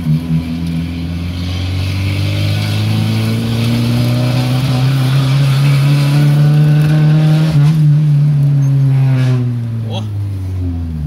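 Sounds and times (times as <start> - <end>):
loud car engine revving: 0.0 - 11.0.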